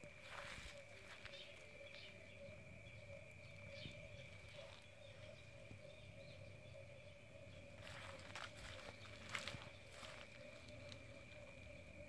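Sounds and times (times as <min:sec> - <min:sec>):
frog chorus droning: 0:00.0 - 0:12.0.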